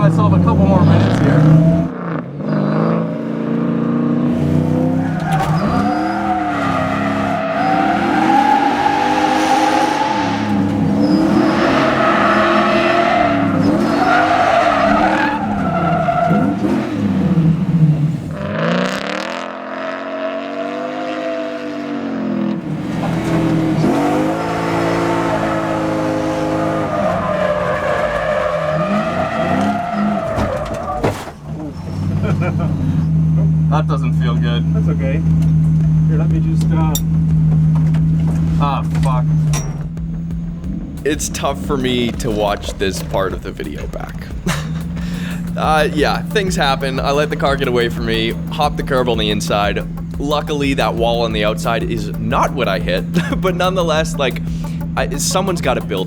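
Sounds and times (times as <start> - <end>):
car engine revving: 0.0 - 56.0
tyres squealing: 4.2 - 18.5, 22.6 - 56.0.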